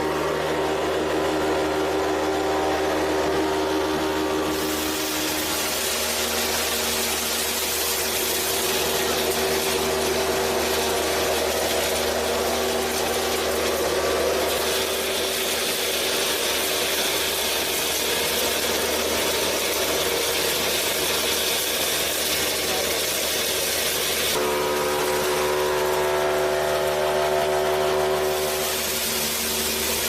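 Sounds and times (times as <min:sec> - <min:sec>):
small motor whirring with rattle: 0:01.3 - 0:30.0.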